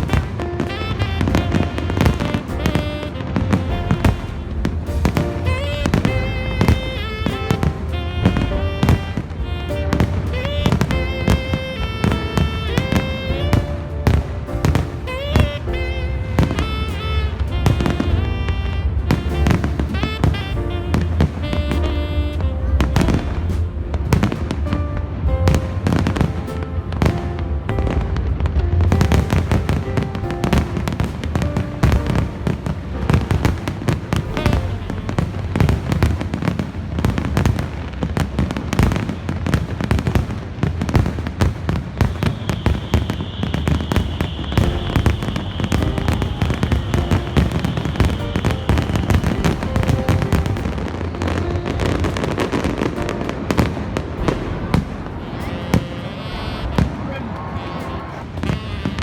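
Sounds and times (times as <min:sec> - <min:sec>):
fireworks bangs and crackling: 0:00.0 - 0:59.0
music: 0:00.0 - 0:59.0.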